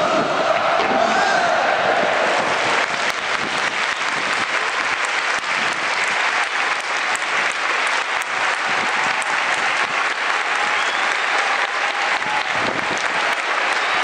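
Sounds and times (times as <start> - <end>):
stadium crowd clapping: 1.6 - 14.0.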